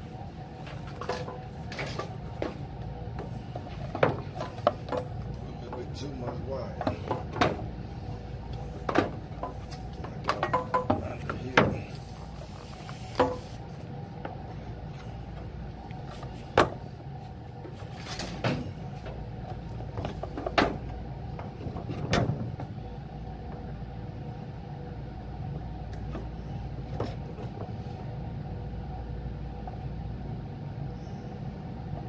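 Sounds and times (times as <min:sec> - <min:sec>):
hvac unit humming: 0:00.0 - 0:32.0.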